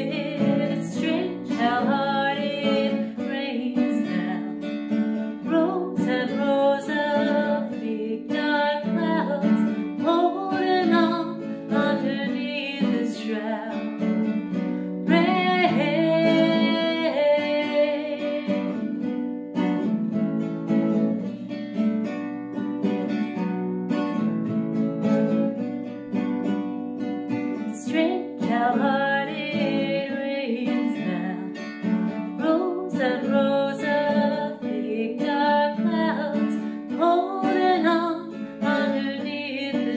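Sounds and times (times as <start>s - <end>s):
woman singing: 0.0s - 20.0s, 27.3s - 39.9s
nylon-string guitar chords: 0.0s - 39.9s.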